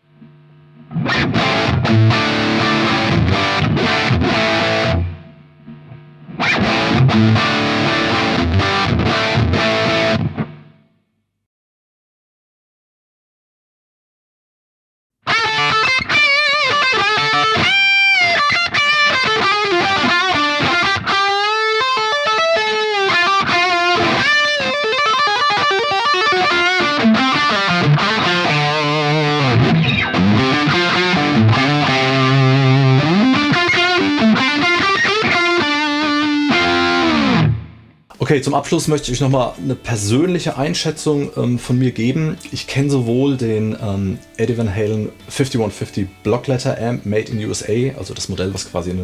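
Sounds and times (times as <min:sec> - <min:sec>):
electric guitar lead lines: 0:00.0 - 0:10.9, 0:15.3 - 0:49.0.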